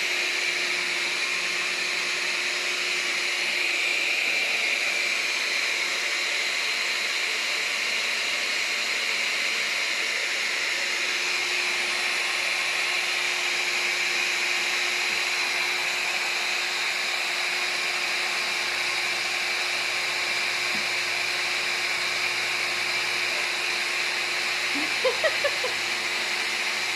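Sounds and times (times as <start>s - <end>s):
vacuum cleaner motor running: 0.0s - 26.9s.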